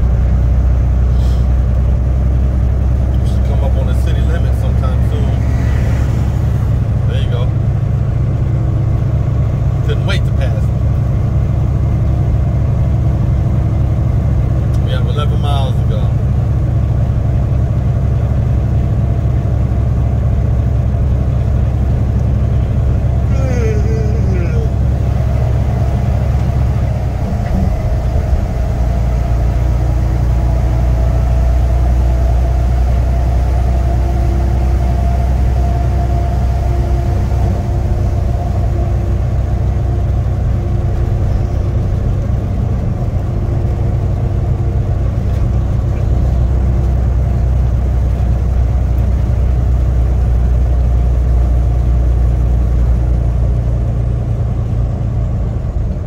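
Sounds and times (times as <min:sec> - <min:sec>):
diesel truck engine droning: 0:00.0 - 0:56.0.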